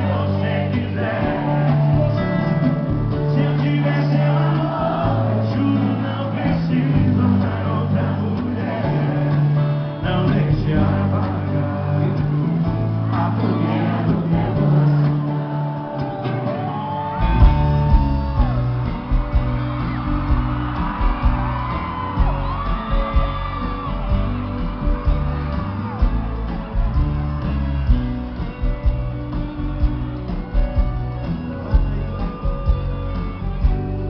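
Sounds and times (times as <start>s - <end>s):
crowd whooping and shouting: 0.0s - 34.0s
live band music: 0.0s - 34.0s.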